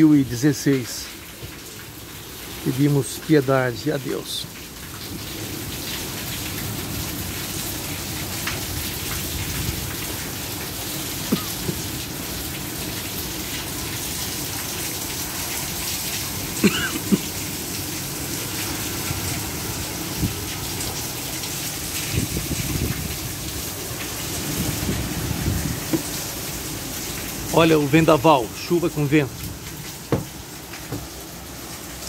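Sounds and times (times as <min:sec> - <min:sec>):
heavy rain splashing on paving: 0:00.0 - 0:32.0.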